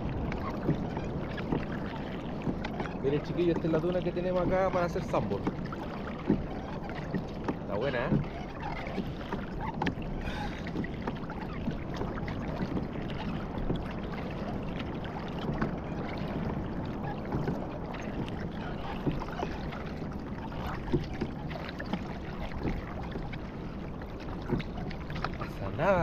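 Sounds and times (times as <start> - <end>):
water lapping against kayak hull: 0.0 - 26.0.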